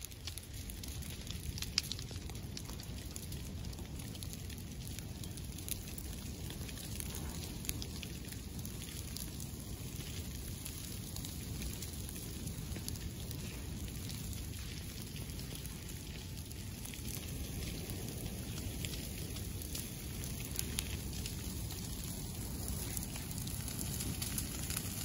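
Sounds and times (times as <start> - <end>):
fire crackling and popping: 0.0 - 25.0
low rush of fire: 0.0 - 25.0.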